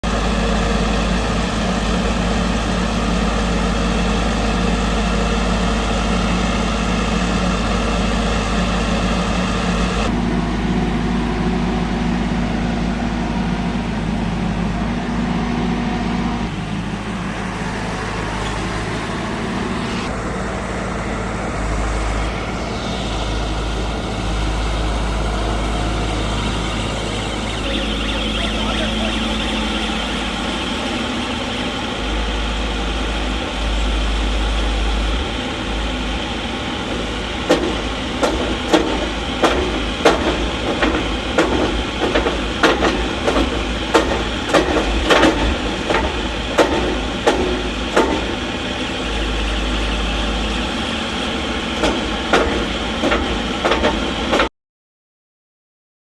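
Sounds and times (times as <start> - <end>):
piling rig engine and hydraulics: 0.0 - 54.5.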